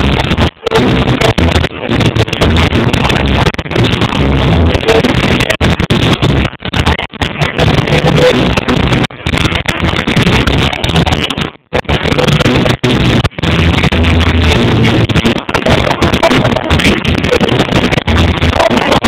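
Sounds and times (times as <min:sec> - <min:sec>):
loud distorted music with heavy bass: 0:00.0 - 0:19.0.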